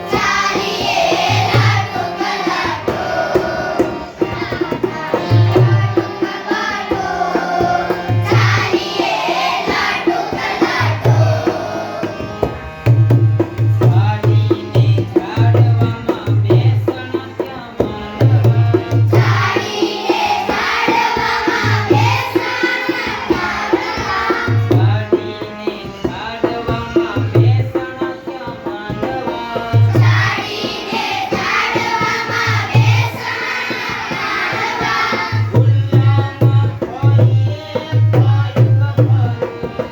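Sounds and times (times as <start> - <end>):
tabla drum rhythm: 0.0 - 39.9.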